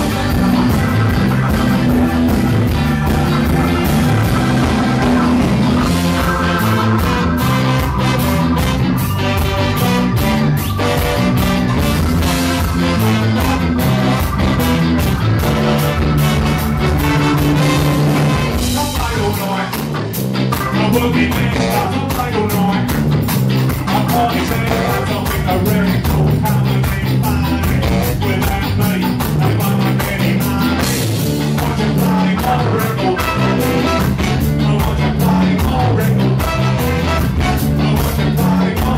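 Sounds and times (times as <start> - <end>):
horn section: 0.0 - 19.7, 20.8 - 22.6, 23.8 - 26.6, 27.3 - 38.9
live ska band playing: 0.0 - 38.9.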